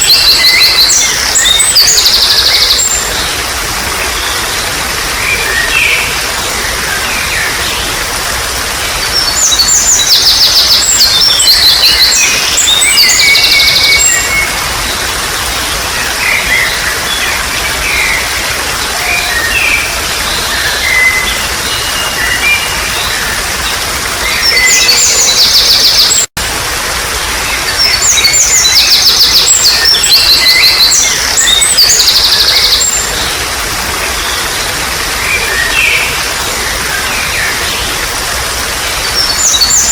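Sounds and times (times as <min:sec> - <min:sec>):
songbirds trilling: 0:00.0 - 0:26.3, 0:27.5 - 0:39.9
water trickling: 0:00.0 - 0:39.9.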